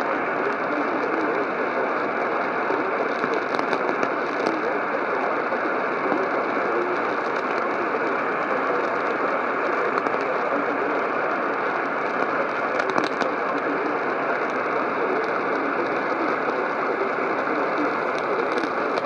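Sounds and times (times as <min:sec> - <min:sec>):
faint crackle: 0:00.0 - 0:19.0
radio static hiss: 0:00.0 - 0:19.0.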